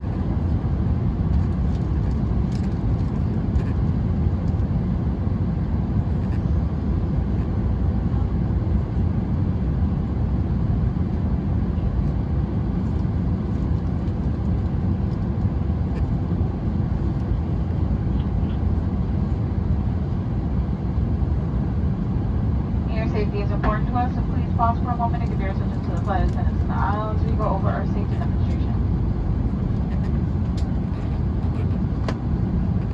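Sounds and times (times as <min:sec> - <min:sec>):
airplane cabin rumble: 0:00.0 - 0:32.9
faint steady hum: 0:00.0 - 0:32.9.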